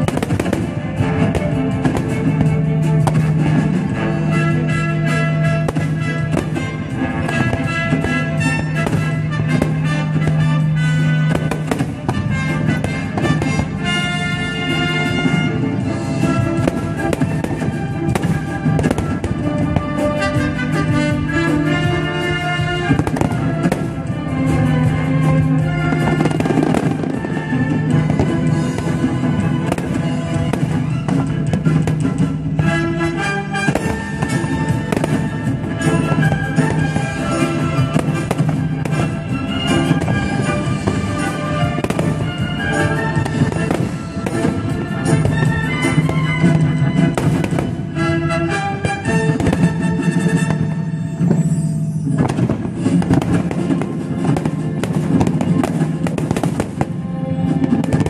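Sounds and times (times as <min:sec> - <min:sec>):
fireworks bursting: 0:00.0 - 0:58.0
orchestral music with brass: 0:00.0 - 0:58.0.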